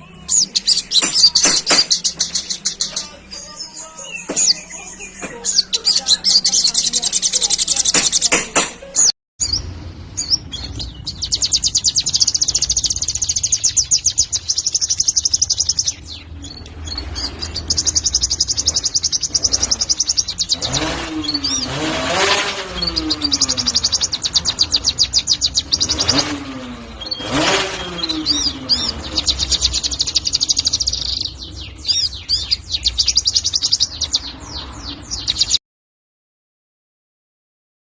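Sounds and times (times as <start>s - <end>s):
bird trilling chatter: 0.0s - 35.6s.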